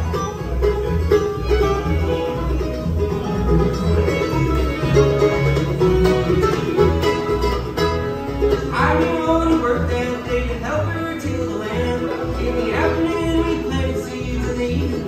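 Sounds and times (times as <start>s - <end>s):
banjo picking: 0.0s - 15.0s
bass line: 0.0s - 15.0s
bluegrass band playing: 0.0s - 15.0s.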